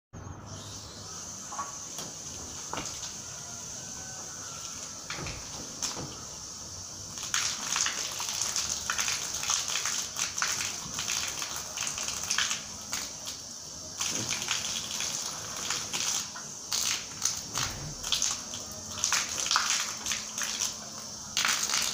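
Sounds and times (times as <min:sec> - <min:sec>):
hose water splashing against wall: 0:01.5 - 0:03.3, 0:04.2 - 0:21.9.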